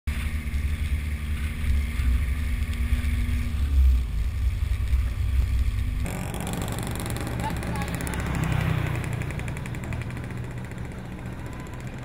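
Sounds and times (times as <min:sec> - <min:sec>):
vehicle rumbling on wet road: 0:00.1 - 0:12.0.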